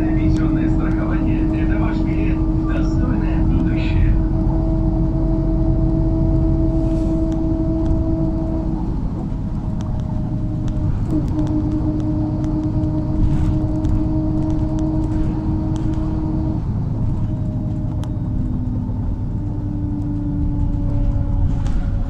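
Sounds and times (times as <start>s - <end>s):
bus engine and road rumble: 0.0s - 22.0s
constant whine: 0.0s - 22.0s.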